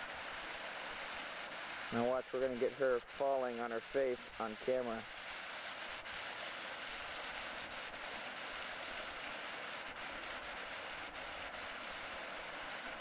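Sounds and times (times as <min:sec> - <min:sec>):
waterfall splashing on rock: 0:00.0 - 0:13.0.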